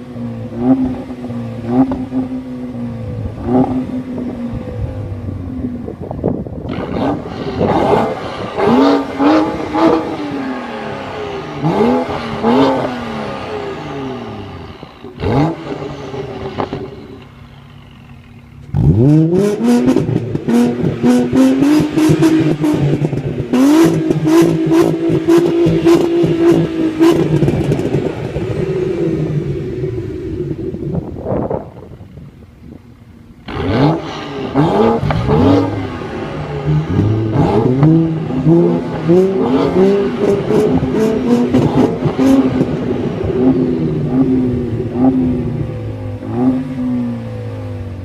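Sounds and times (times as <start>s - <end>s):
car engine revving: 0.0s - 32.1s, 33.3s - 48.0s.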